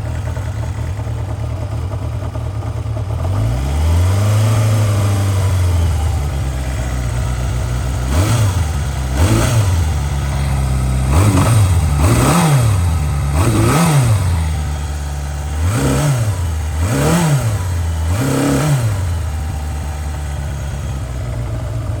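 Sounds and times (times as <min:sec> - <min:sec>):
motorcycle engine idling: 0:00.0 - 0:22.0
engine throttle revs: 0:03.2 - 0:22.0.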